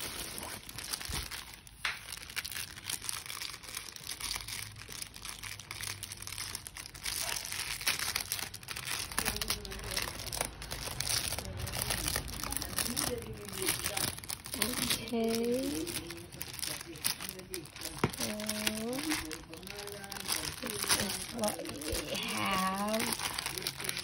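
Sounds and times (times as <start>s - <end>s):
plastic wrap crinkling: 0.0s - 24.0s.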